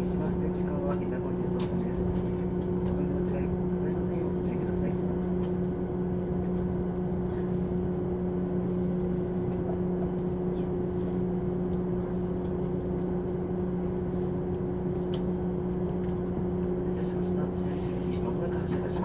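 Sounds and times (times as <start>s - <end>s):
electric train cabin rumble: 0.0s - 19.0s
low electrical hum: 0.0s - 19.0s.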